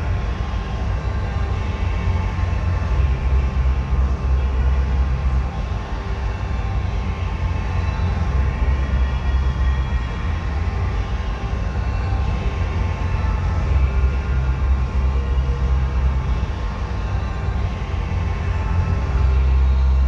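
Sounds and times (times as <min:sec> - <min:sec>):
faint hum tones: 0:00.0 - 0:20.0
ventilation fans rumbling: 0:00.0 - 0:20.0.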